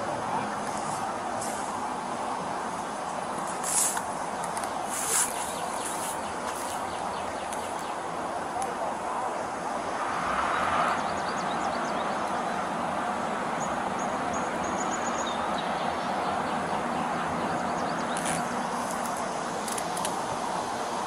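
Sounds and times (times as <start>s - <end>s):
vehicle engines idling: 0.0s - 21.0s.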